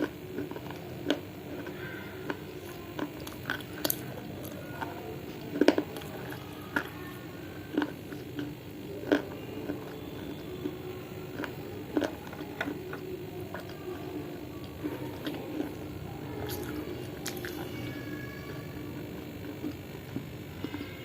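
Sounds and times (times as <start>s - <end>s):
sharp crunches and clicks: 0.0s - 21.0s
wet squishy chewing: 0.0s - 21.0s.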